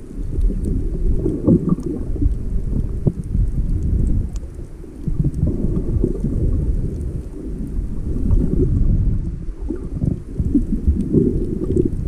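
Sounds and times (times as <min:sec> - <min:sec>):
faint ticks: 0:00.0 - 0:12.0
muffled underwater water rumble: 0:00.0 - 0:12.0.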